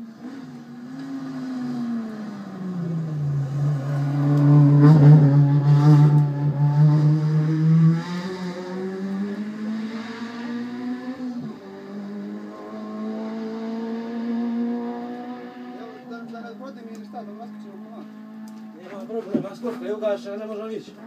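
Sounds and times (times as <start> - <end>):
race car engine passing by: 0.1 - 18.8.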